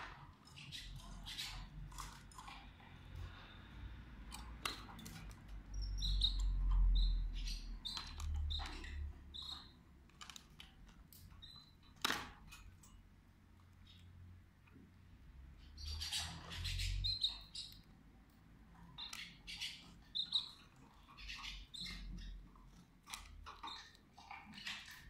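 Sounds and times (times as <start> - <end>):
canaries chirping: 0.0 - 14.4, 15.0 - 25.0.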